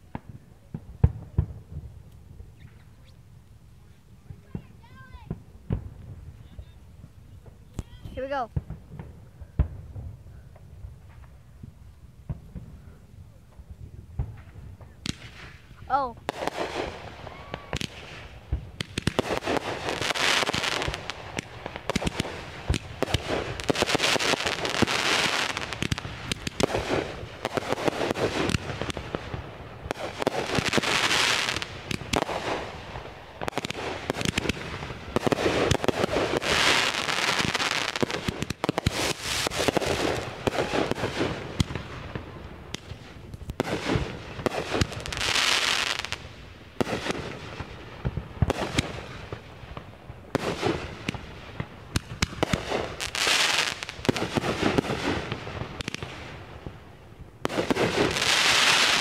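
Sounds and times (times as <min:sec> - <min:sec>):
fireworks popping and crackling: 0:00.0 - 0:59.0.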